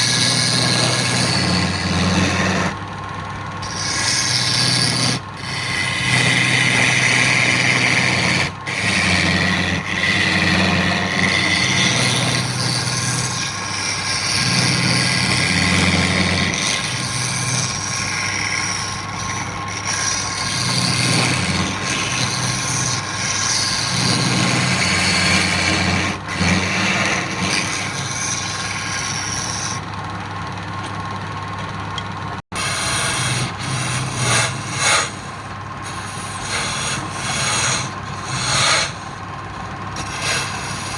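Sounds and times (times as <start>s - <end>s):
tool scraping spinning wood: 0.0s - 40.9s
wood lathe motor hum: 0.0s - 40.9s.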